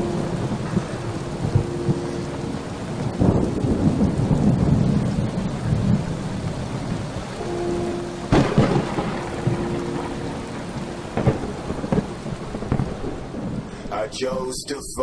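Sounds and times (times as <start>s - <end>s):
sharp thunder crack: 0.0s - 14.4s
deep thunder rumble: 0.0s - 14.6s
rain falling: 0.0s - 15.0s.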